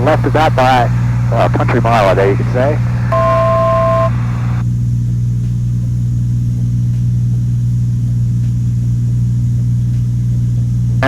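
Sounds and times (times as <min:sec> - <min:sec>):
aircraft engine droning in cabin: 0:00.0 - 0:11.0.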